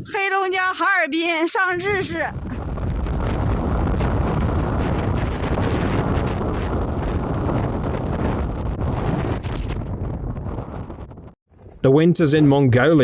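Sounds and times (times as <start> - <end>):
strong wind buffeting microphone: 0.0 - 11.8.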